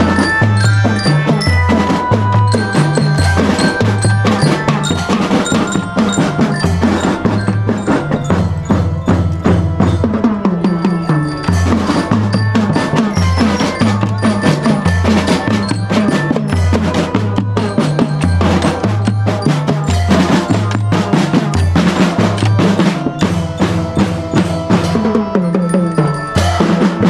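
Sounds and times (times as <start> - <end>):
glockenspiel melody: 0.0 - 27.0
snare and bass drums: 0.0 - 27.0.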